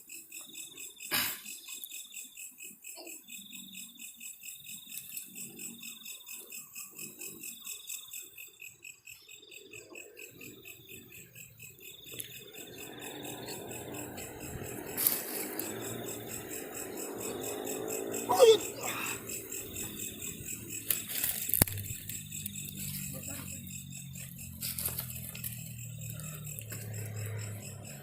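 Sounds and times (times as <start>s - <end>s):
crickets trilling: 0.0s - 28.0s.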